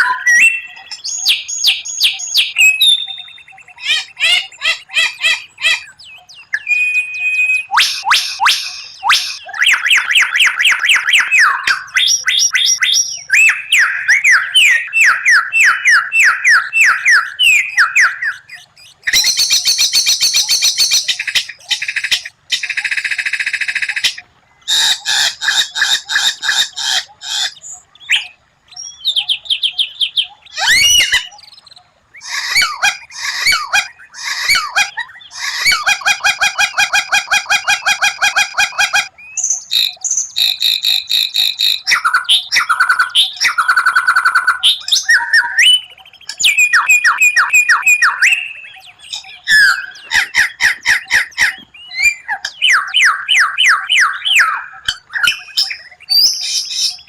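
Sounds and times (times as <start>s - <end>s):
songbird whistling trills: 0.0s - 57.0s.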